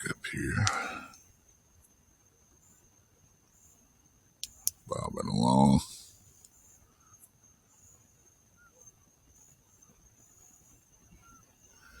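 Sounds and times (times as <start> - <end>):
crickets trilling: 0.0 - 12.0
soft cricket chirps: 0.0 - 12.0.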